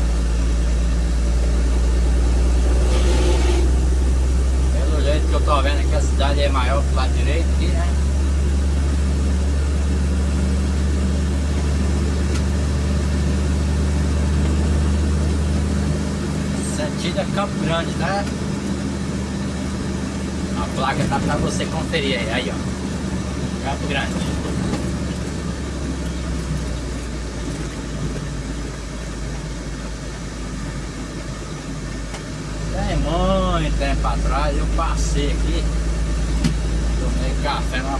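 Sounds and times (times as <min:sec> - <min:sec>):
engine drone and road noise: 0:00.0 - 0:37.9.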